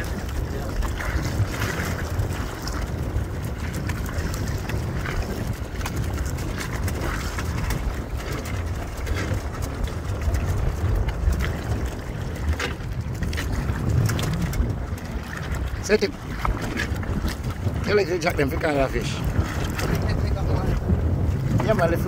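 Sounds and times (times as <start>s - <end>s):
choppy water against boat: 0.0s - 22.0s
wind buffeting microphone: 0.0s - 22.0s.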